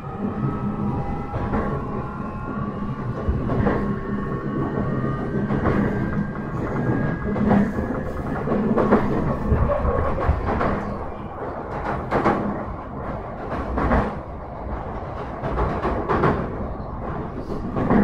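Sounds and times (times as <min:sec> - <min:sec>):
rail joint clicks and knocks: 0:00.0 - 0:18.0
wheels rumbling on track: 0:00.0 - 0:18.0.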